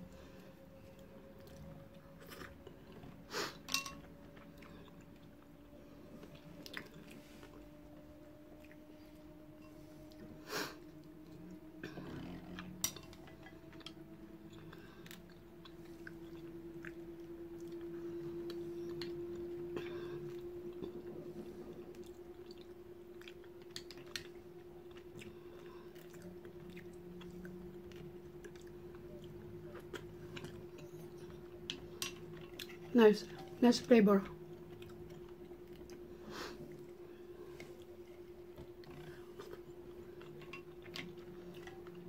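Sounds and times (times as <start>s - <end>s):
chewing: 0.0s - 33.6s, 34.2s - 42.0s
low hum rising in pitch: 0.0s - 42.0s.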